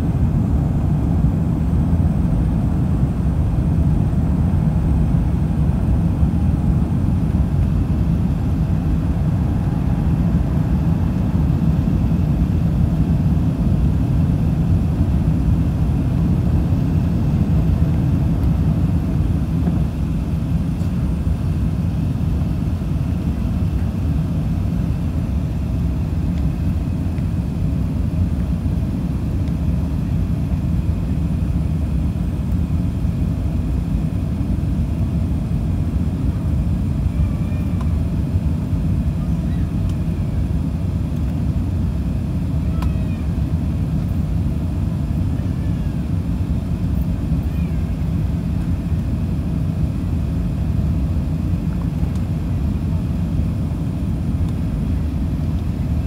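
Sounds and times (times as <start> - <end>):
aircraft engines at climb power: 0.0 - 56.0
rush of air over wing: 0.0 - 56.0.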